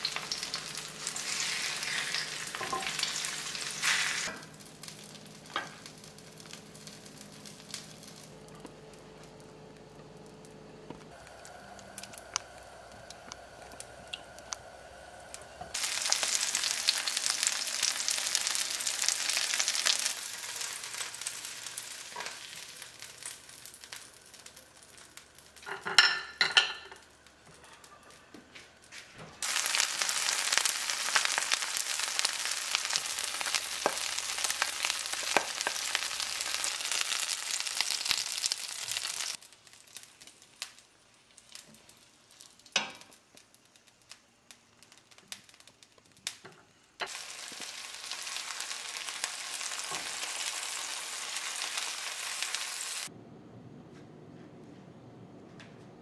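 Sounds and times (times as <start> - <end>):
food sizzling in oil: 0.0 - 8.3, 11.1 - 27.3, 29.4 - 53.1.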